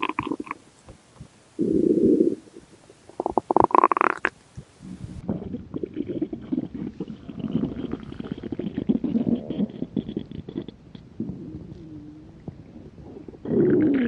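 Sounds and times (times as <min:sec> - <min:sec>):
stomach growling: 0:00.0 - 0:00.6, 0:01.6 - 0:14.0.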